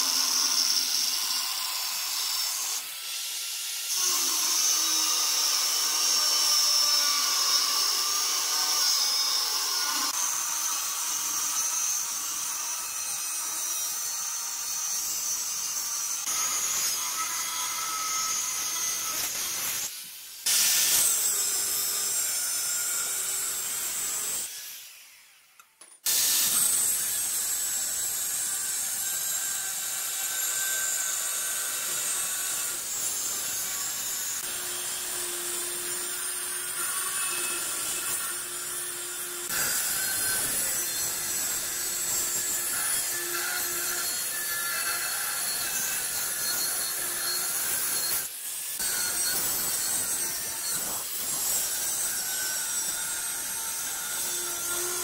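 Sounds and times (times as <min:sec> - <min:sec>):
angle grinder cutting steel: 0:00.0 - 0:55.0.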